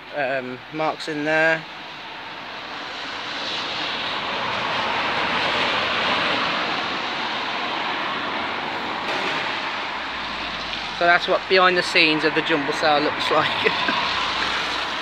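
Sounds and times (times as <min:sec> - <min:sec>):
passing vehicle rushing: 0:01.3 - 0:15.0.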